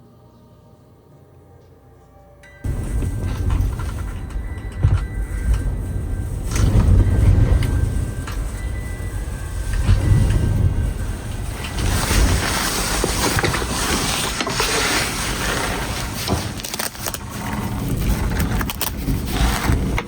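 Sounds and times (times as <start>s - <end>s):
blizzard wind gusting: 2.6s - 20.0s.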